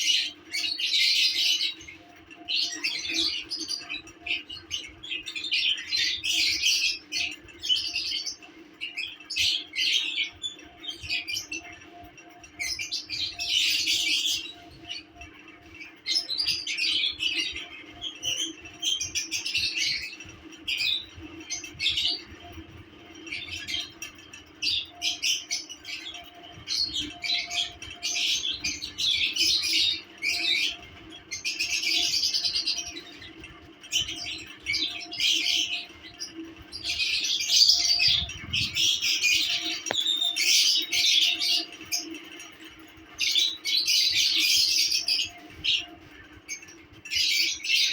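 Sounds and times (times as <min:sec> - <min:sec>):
lovebirds chirping and squawking: 0:00.0 - 0:47.9.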